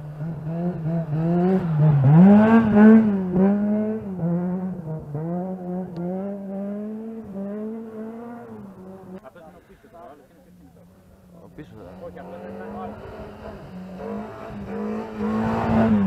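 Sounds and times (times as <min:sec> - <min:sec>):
rally car engine accelerating: 0:00.0 - 0:09.7, 0:10.5 - 0:16.0.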